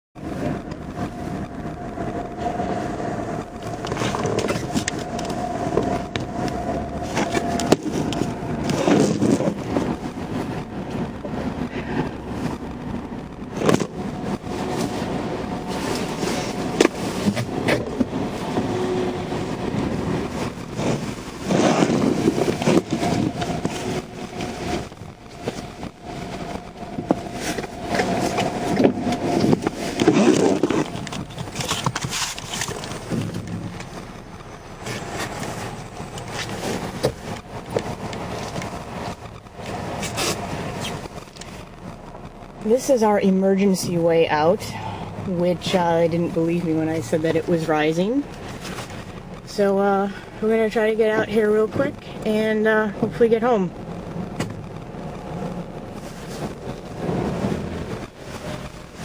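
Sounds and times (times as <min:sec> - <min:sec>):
car engine: 0:00.2 - 0:59.0.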